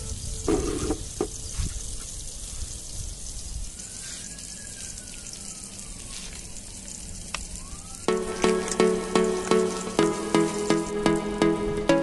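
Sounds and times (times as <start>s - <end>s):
food frying in hot oil: 0.0s - 10.9s.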